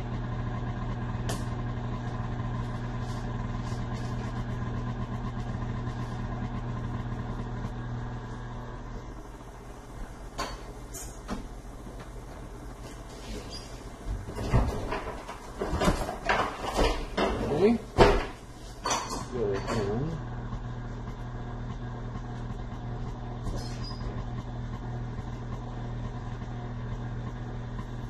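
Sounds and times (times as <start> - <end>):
stand mixer motor hum: 0.0 - 14.3, 17.4 - 28.0.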